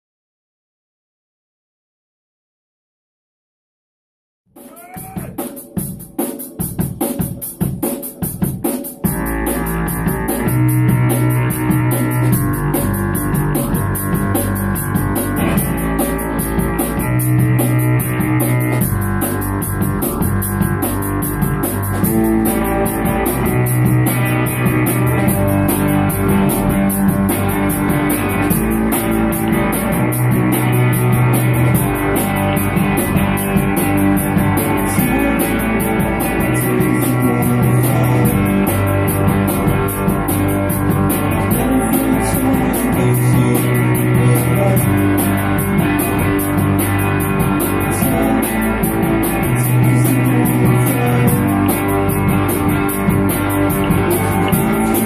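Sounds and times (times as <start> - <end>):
drum hits: 4.6 - 55.0
live rock band riff: 4.6 - 55.0.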